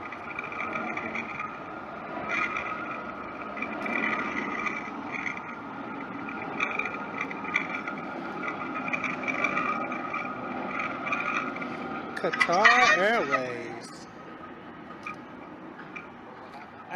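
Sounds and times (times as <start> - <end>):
jet engines whining: 0.0 - 16.9.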